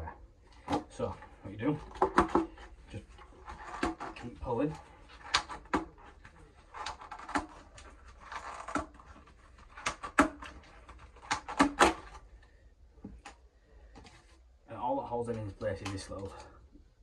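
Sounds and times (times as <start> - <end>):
corrugated plastic scraping: 0.0 - 14.4.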